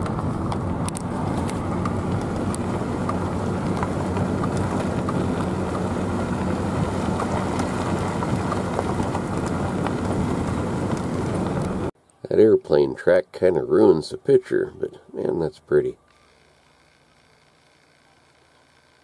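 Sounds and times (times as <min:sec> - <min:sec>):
vehicle engine hum: 0:00.0 - 0:12.4, 0:14.7 - 0:19.0.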